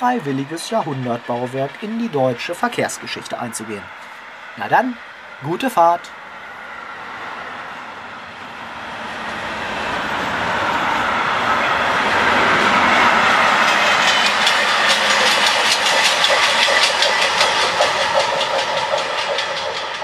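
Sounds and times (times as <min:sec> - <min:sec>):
clickety-clack of wheels on rails: 0:00.0 - 0:06.2, 0:06.9 - 0:20.0
freight train rolling past: 0:00.0 - 0:20.0.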